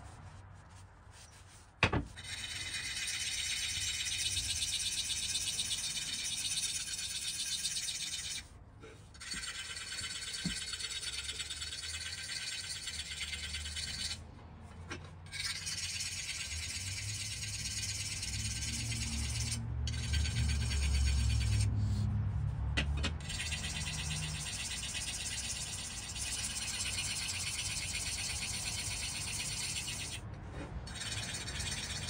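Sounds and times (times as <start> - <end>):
file rasping on steel blade: 2.1 - 14.2, 15.3 - 22.1, 23.2 - 32.0.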